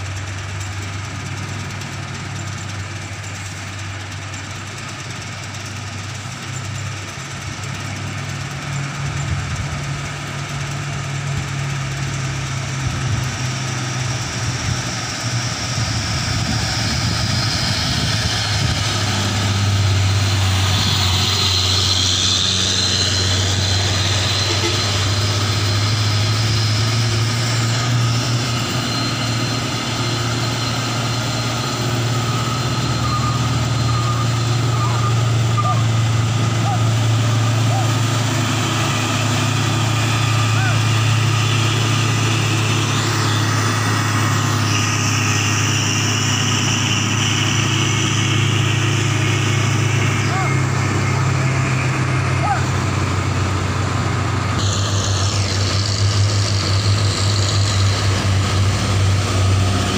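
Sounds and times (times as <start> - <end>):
diesel truck engines running: 0.0 - 59.9
truck hiss: 0.0 - 59.9.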